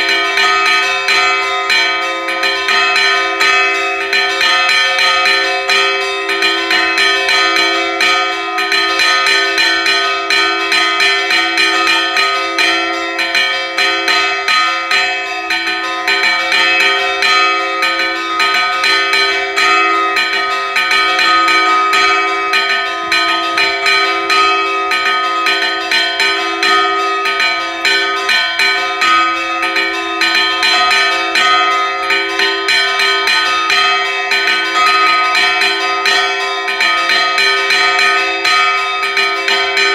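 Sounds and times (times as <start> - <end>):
church bells ringing rapidly: 0.0 - 39.9.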